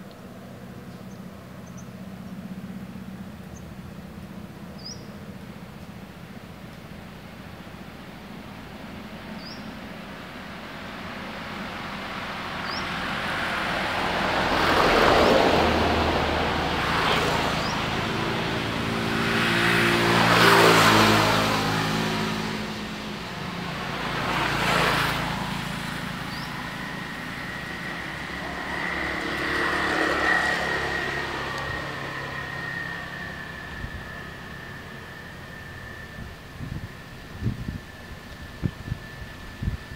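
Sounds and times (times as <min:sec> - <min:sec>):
motor vehicles passing: 0:00.0 - 0:39.9
thin high whine: 0:02.6 - 0:39.9.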